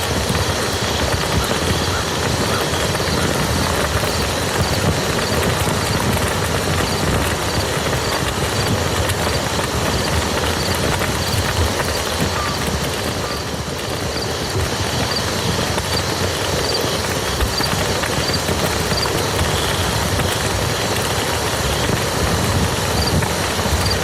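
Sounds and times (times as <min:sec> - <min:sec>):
rain falling on a field: 0:00.0 - 0:24.0.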